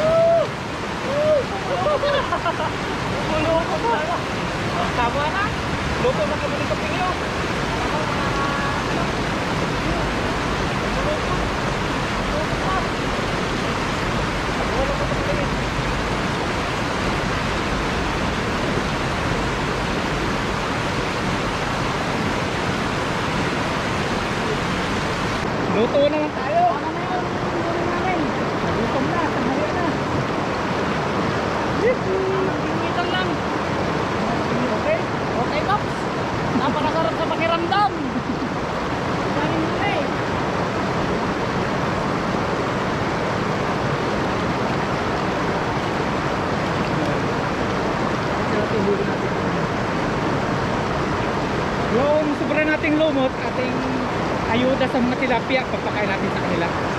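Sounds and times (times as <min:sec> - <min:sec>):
river water over weir: 0:00.0 - 0:56.9.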